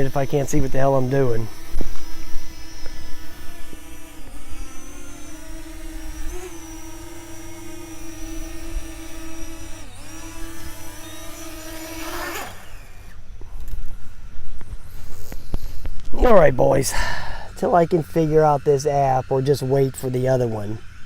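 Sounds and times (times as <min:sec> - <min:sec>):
drone rotors whining: 0:00.0 - 0:21.0.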